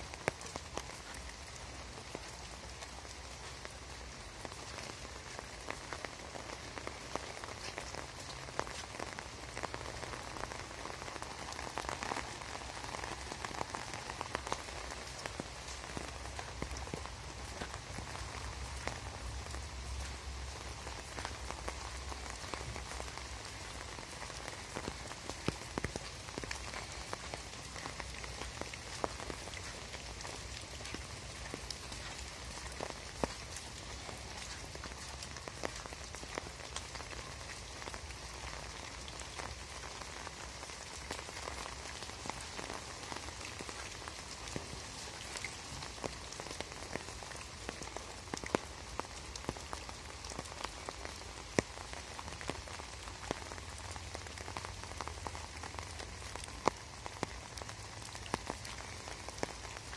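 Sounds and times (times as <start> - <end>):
rain falling on leaves and grass: 0.0 - 59.9
raindrops ticking close by: 0.0 - 59.9.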